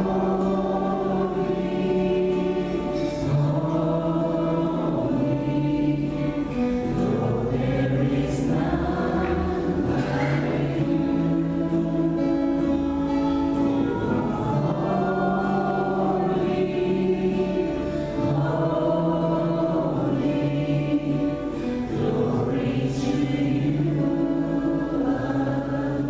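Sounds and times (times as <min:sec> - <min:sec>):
choir singing religious music: 0:00.0 - 0:26.0.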